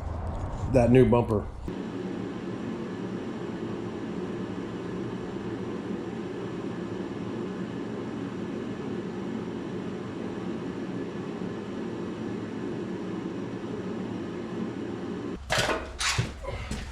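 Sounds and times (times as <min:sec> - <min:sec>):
low rumbling background noise: 0:00.0 - 0:16.9.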